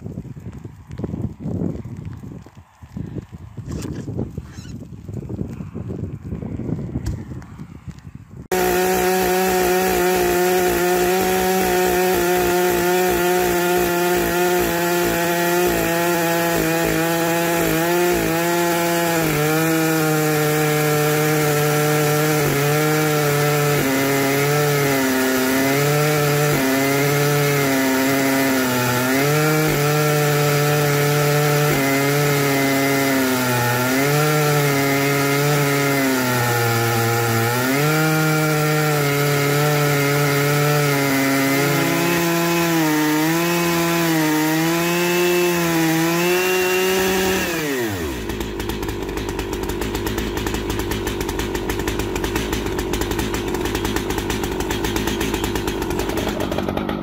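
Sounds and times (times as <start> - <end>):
chainsaw cutting log: 3.7 - 4.8, 8.5 - 57.0.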